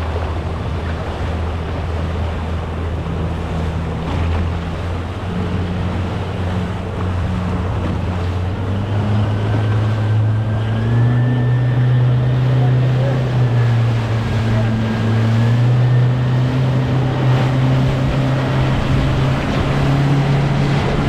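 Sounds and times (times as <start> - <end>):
boat engine running: 0.0 - 21.0
water splashing: 0.0 - 21.0
wind: 0.0 - 21.0.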